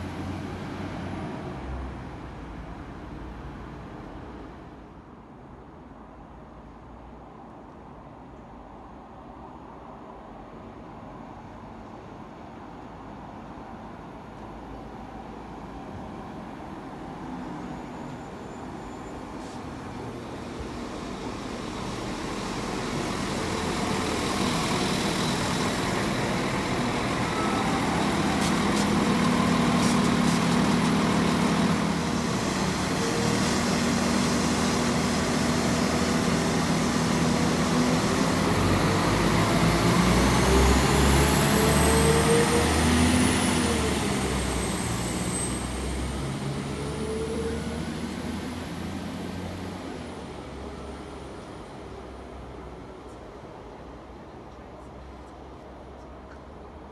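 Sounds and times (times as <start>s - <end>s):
train diesel engines running: 9.2s - 56.9s.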